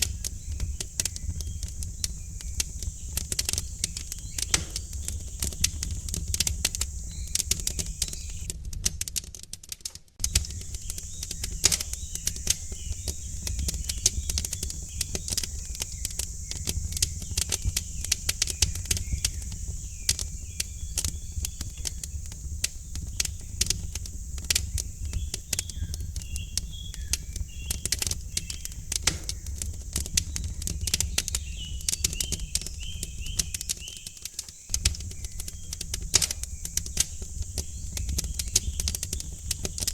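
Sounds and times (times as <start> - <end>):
faint bird chirps: 0.0 - 8.5, 10.2 - 39.9
wood fire crackling: 0.0 - 39.9.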